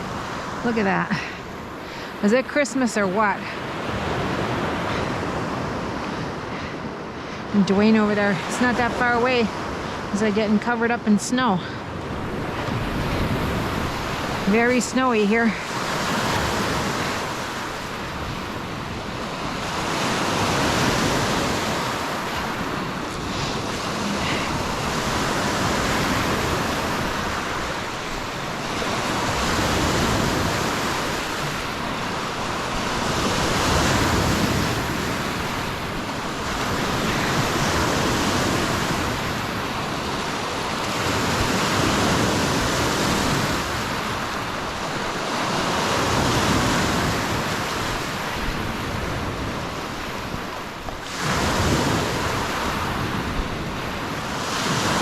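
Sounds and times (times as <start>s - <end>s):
waves breaking on shore: 0.0s - 55.0s
wind buffeting microphone: 0.0s - 55.0s.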